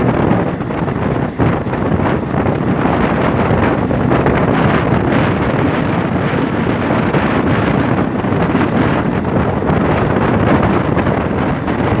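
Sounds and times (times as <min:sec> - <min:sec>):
train rumbling at speed: 0:00.0 - 0:12.0
wind rushing on microphone: 0:00.0 - 0:12.0.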